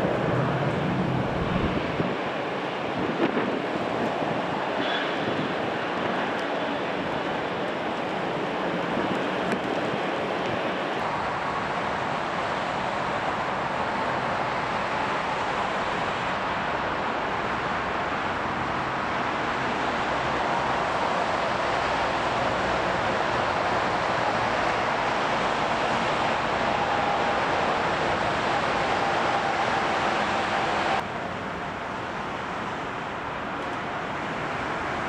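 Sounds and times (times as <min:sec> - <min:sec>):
distant jet engine roar: 0:00.0 - 0:35.0.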